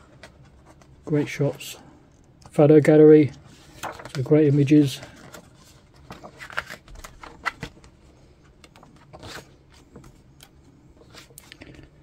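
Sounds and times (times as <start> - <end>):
book pages rustling: 0.1 - 1.4, 3.4 - 12.0.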